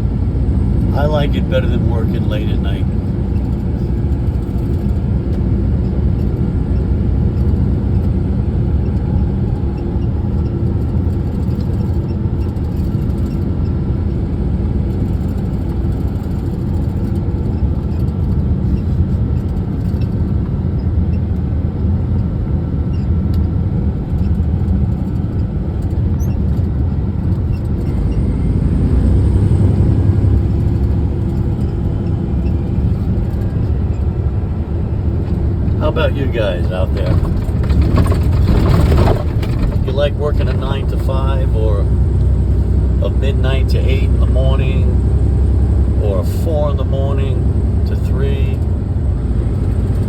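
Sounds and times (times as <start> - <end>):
truck engine and tyres droning: 0.0 - 50.0.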